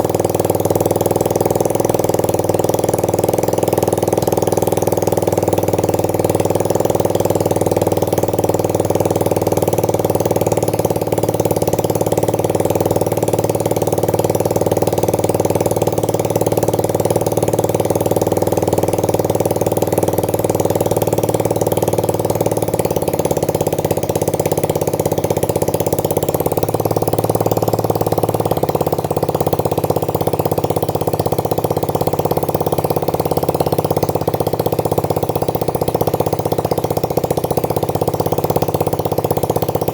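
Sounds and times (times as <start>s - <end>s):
moped engine idling: 0.0s - 39.9s.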